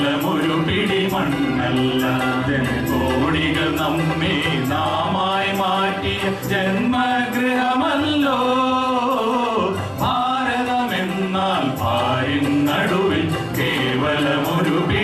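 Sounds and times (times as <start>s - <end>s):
children singing: 0.0s - 15.0s
instrumental accompaniment: 0.0s - 15.0s.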